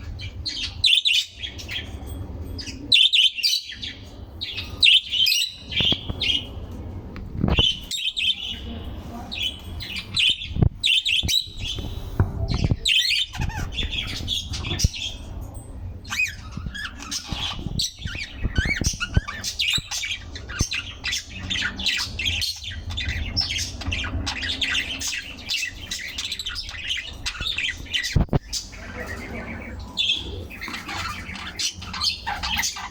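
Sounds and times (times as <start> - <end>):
small birds chirping and squawking: 0.0 - 32.9.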